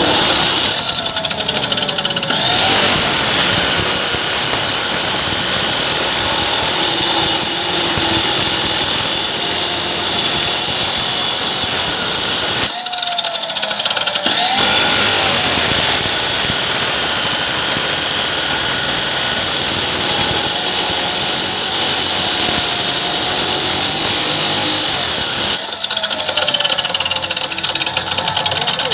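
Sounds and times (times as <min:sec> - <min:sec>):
engine pulsing: 0:00.0 - 0:28.9
power tool whining: 0:00.0 - 0:28.9.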